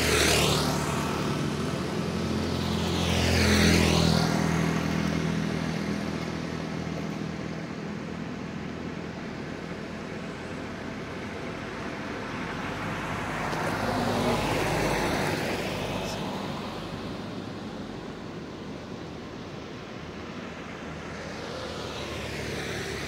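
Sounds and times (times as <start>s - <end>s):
distant traffic hum: 0.0s - 23.0s.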